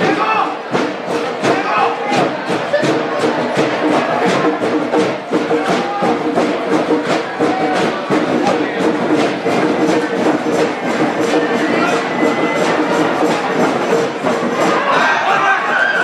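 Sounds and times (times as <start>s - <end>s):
fast drum beat: 0.0s - 16.0s.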